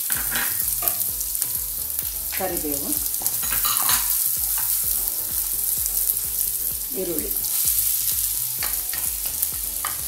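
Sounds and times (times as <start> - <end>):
spatula scraping a pan: 0.0 - 1.1, 2.0 - 10.0
spices sizzling in hot oil: 0.0 - 10.0.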